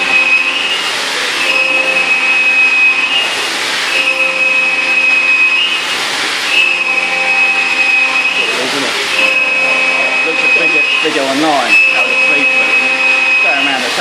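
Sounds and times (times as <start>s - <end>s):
cutter hissing surge: 0.0s - 14.0s
milling machine whine: 0.0s - 14.0s.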